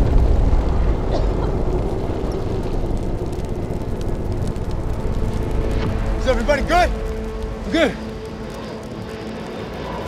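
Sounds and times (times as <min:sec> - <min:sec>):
low rumble after explosion: 0:00.0 - 0:09.8.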